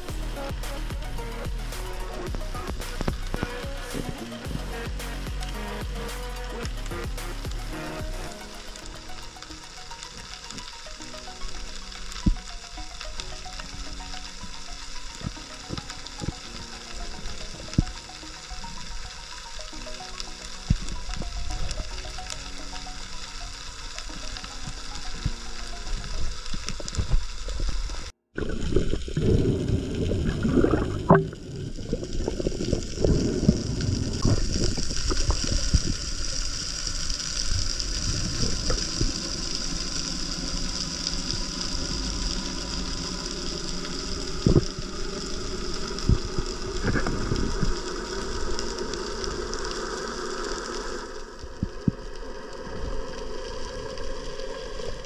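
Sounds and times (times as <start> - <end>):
steady high hiss: 0.0 - 28.1, 33.0 - 55.0
water rushing and gurgling underwater: 6.7 - 55.0.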